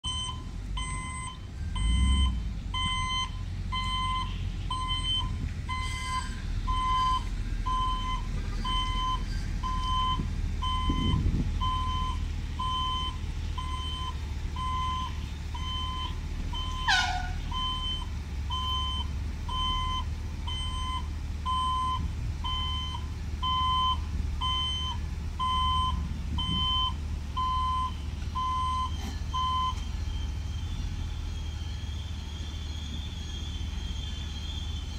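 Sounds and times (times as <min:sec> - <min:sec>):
low rumble: 0:00.0 - 0:34.9.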